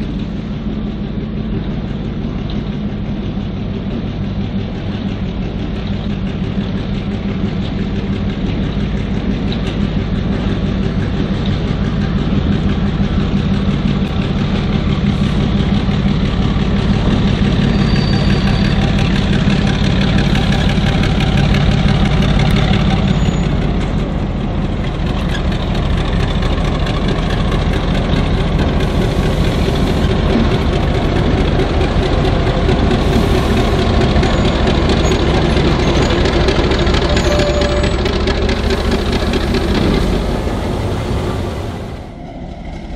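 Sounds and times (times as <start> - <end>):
diesel locomotive engine humming: 0.0 - 42.9.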